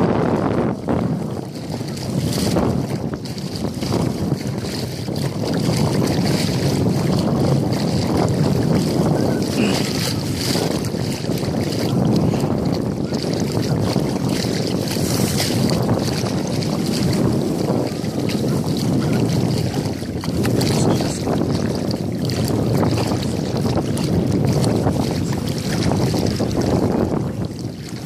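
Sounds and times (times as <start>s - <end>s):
legs wading through shallow water: 0.0s - 28.0s
wind buffeting microphone: 0.0s - 28.0s.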